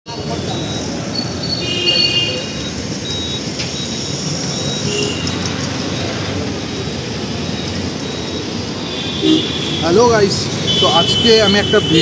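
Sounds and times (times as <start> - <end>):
traffic rumble: 0.1 - 12.0.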